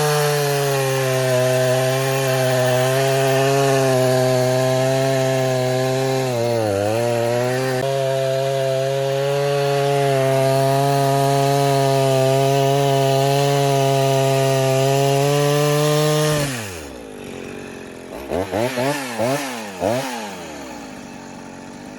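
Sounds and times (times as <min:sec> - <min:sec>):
chainsaw cutting wood: 0:00.0 - 0:21.9.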